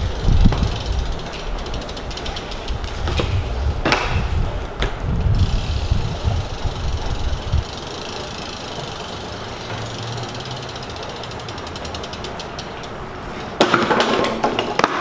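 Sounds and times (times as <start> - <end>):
bike hub ratchet ticking: 0.0 - 3.5, 4.9 - 13.6, 14.4 - 15.0
low rolling rumble: 0.0 - 13.2.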